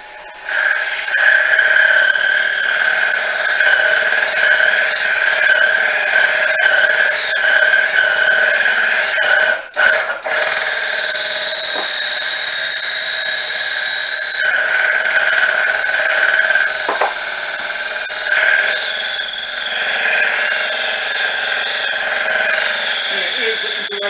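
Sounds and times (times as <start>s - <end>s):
mill boring metal squealing: 0.0s - 24.0s.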